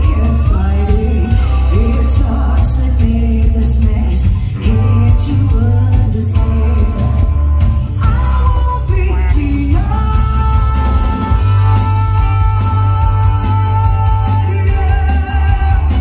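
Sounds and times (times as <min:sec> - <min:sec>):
bass guitar: 0:00.0 - 0:16.0
woman singing: 0:00.0 - 0:16.0.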